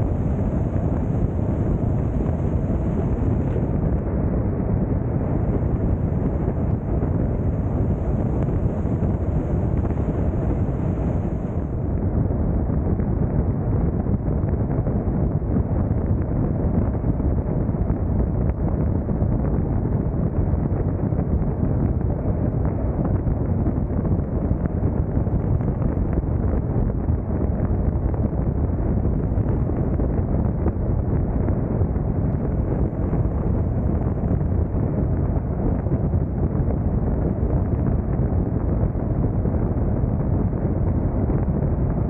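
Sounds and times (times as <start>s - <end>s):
car wind and road noise: 0.0s - 13.9s, 20.6s - 42.0s
wind buffeting microphone: 0.0s - 42.0s.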